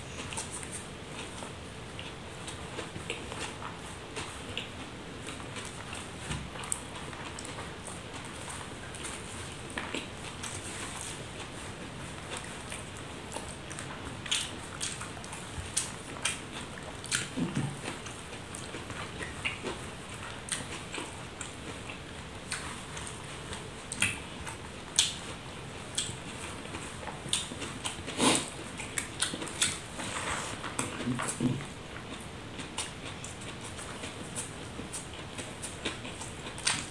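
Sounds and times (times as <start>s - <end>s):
man chewing: 0.0s - 36.9s.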